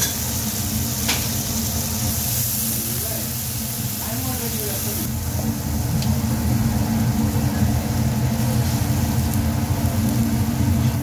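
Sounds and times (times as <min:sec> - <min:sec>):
food simmering in frying pan: 0:00.0 - 0:11.0.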